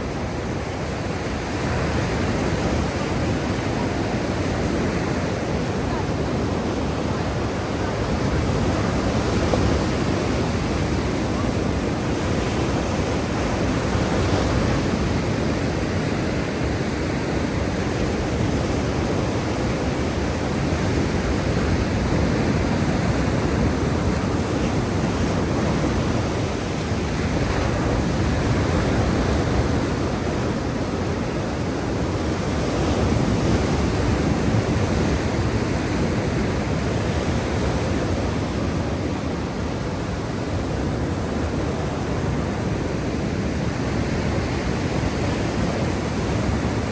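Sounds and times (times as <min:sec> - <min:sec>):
waves rushing: 0:00.0 - 0:46.9.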